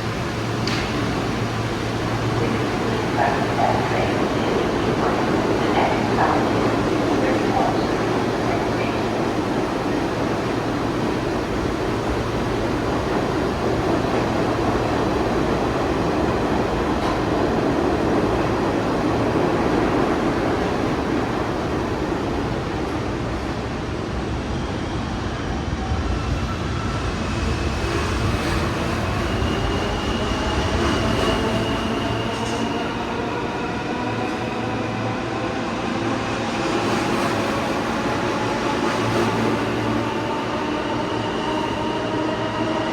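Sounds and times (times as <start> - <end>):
subway train rumble: 0.0 - 42.9.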